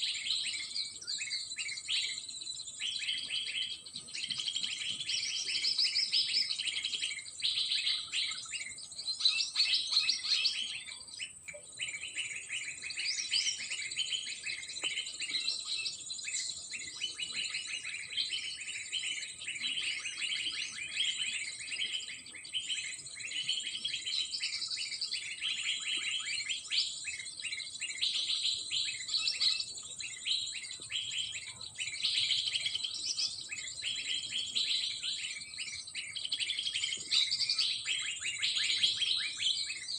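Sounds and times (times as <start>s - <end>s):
dense bird chirping: 0.0s - 39.9s.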